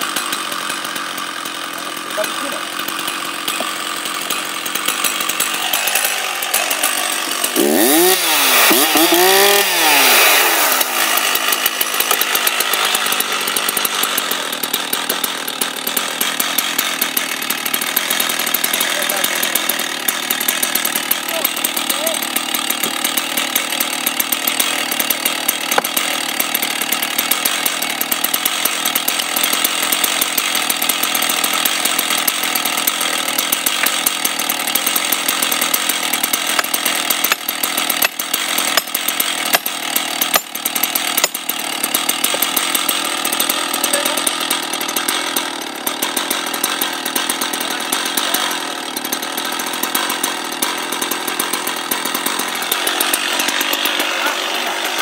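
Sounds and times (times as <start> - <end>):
chainsaw engine idling: 0.0 - 55.0.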